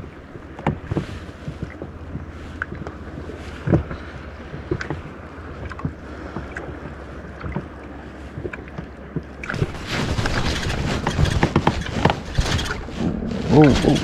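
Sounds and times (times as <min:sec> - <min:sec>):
waves slapping rubber hull: 0:00.0 - 0:14.0
wind rumble on microphone: 0:00.0 - 0:14.0.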